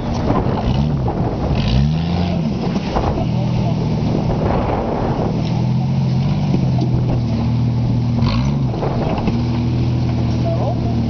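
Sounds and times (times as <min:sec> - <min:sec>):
engine running under load: 0:00.0 - 0:11.0.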